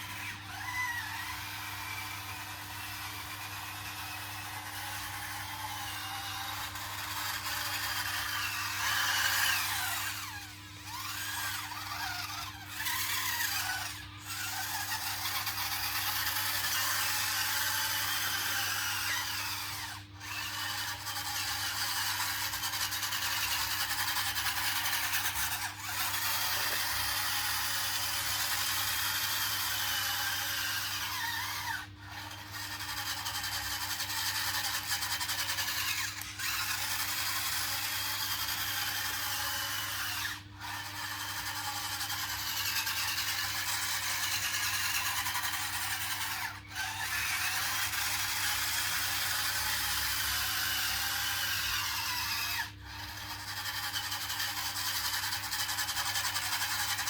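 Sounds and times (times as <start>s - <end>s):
toy bulldozer motors whining: 0.0s - 57.0s.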